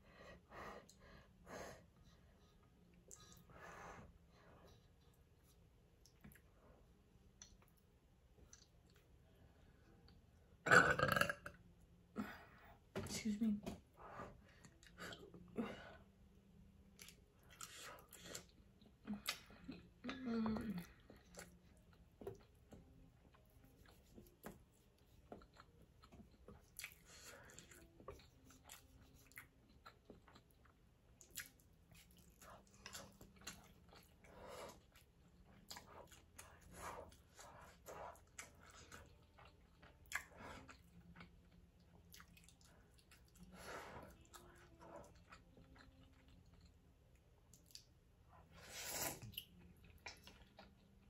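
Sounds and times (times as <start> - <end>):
faint chewing of noodles: 0.0 - 12.9, 13.8 - 51.0.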